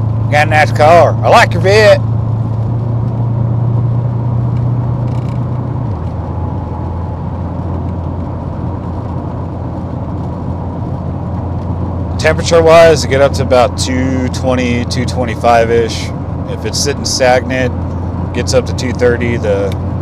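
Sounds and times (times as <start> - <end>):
car engine cabin drone: 0.0 - 20.0
tyre and road noise: 0.0 - 20.0.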